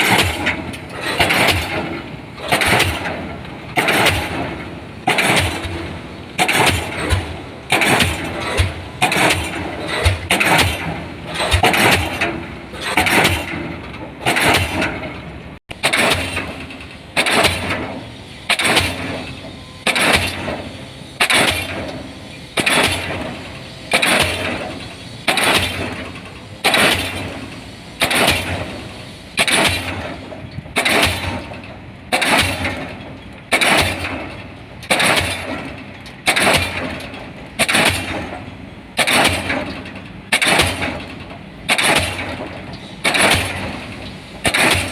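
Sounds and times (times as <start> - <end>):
diesel pile hammer blows: 0.0 - 44.9.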